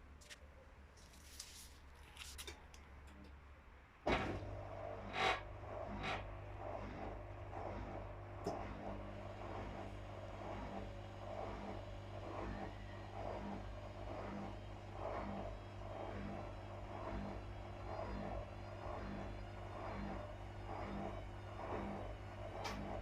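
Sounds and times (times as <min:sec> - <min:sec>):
washing machine spinning: 0:04.0 - 0:23.0.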